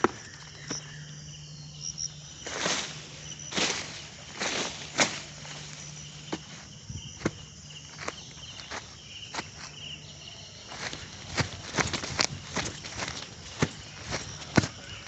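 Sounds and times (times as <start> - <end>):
insects chirping: 0.0 - 15.0
footsteps on forest floor: 2.2 - 15.0.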